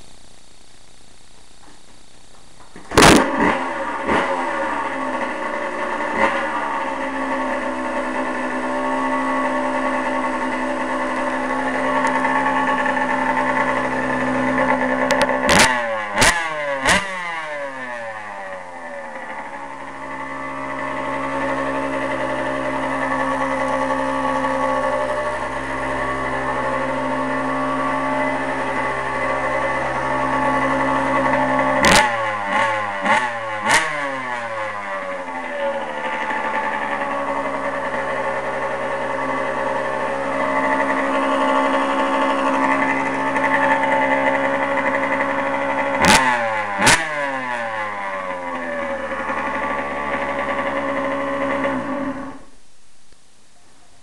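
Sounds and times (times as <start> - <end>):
dirt bike engine at steady revs: 0.0 - 52.6.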